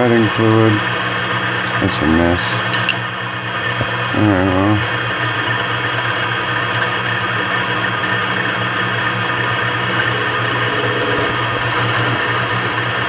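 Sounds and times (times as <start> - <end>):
mini lathe whirring: 0.0 - 13.0.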